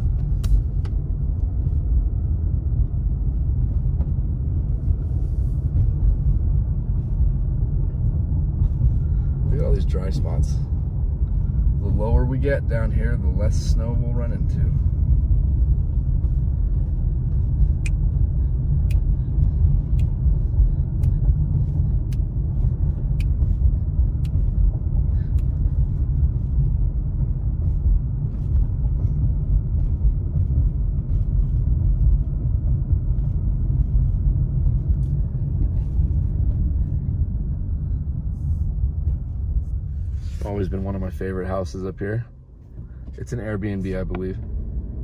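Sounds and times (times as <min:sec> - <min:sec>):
car tyre and engine rumble: 0:00.0 - 0:45.0.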